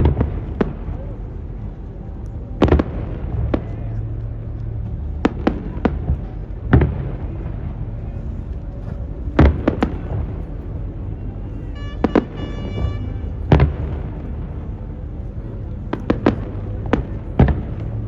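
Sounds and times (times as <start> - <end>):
fireworks bursting: 0.0 - 10.9, 11.6 - 18.0
low rumble: 0.0 - 18.0.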